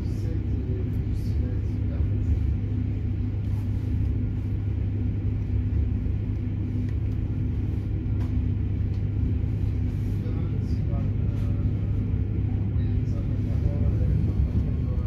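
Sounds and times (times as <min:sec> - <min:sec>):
faint steady hum: 0:00.0 - 0:15.0
train low rumble: 0:00.0 - 0:15.0.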